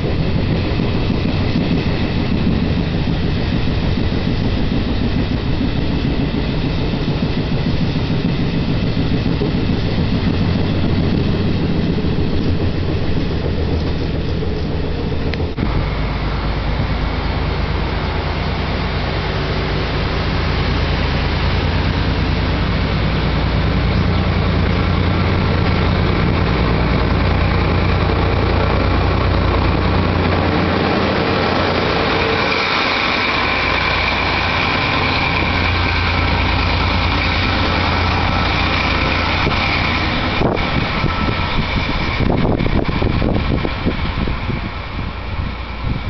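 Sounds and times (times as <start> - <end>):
high steady whine: 0.0 - 46.0
low engine rumble: 0.0 - 46.0
train coaches rolling over track: 0.0 - 46.0.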